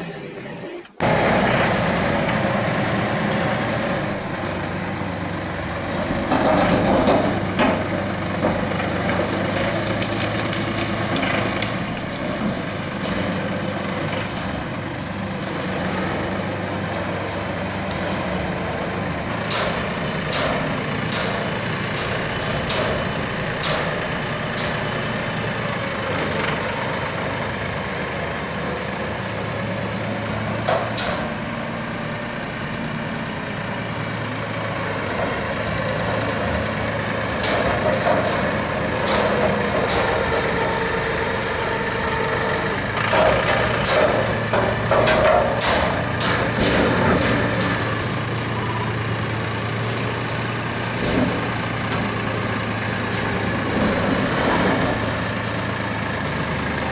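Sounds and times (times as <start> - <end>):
drawn-out squeal: 0.0 - 56.9
tractor engine running: 0.0 - 56.9
metal clanks and knocks: 1.0 - 27.5, 30.1 - 32.7, 33.4 - 56.9.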